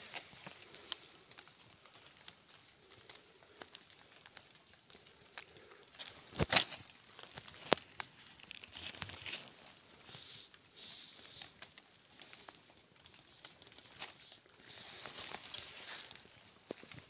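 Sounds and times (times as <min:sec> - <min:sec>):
feathers and dry leaves rustling: 0:00.0 - 0:17.0.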